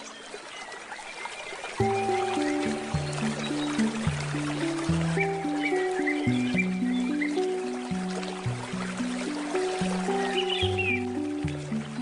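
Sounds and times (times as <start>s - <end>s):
bird chirps: 0.0s - 8.4s, 9.6s - 11.6s
babbling river: 0.0s - 12.0s
handpan ringing notes: 1.8s - 12.0s.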